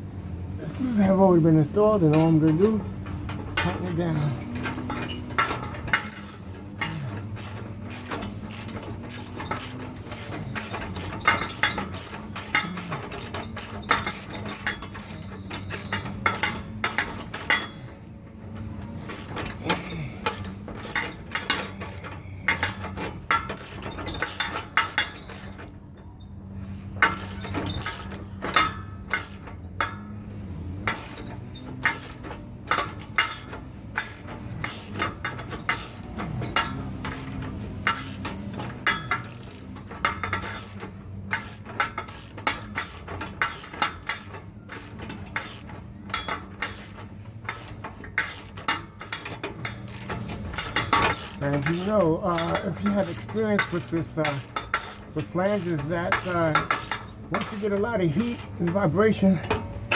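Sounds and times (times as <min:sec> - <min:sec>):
steady low hum: 0:00.0 - 0:59.9
ratchet wrench clicking: 0:04.5 - 0:25.8, 0:27.0 - 0:30.1, 0:30.8 - 0:59.9.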